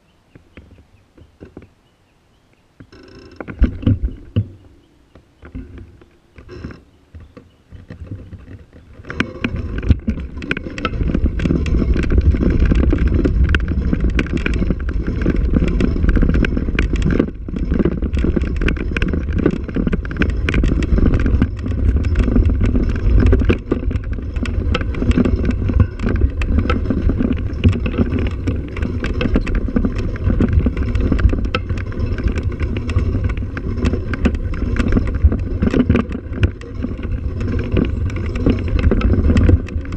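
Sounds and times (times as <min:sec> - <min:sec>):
vehicle rumbling over dirt track: 0:03.3 - 0:39.9.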